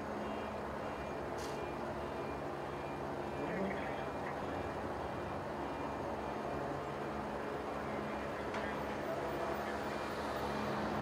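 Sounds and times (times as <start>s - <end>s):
street ambience: 0.0s - 11.0s.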